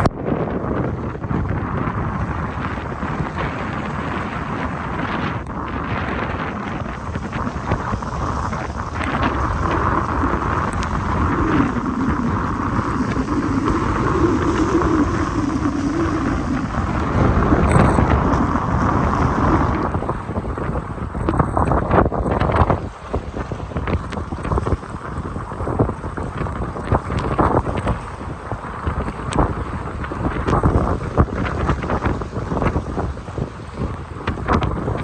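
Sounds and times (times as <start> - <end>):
low wavering wind howl: 0.0 - 35.0
strong wind buffeting microphone: 0.0 - 35.0.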